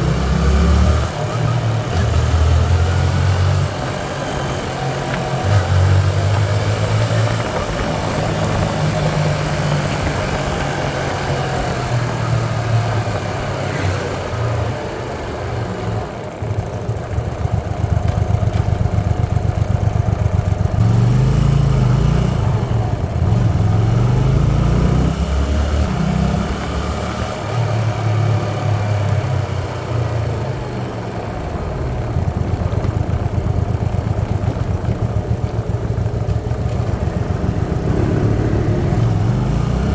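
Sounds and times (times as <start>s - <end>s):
constant rushing noise: 0.0s - 23.8s, 25.9s - 39.9s
motorcycle engine revving: 0.0s - 39.9s.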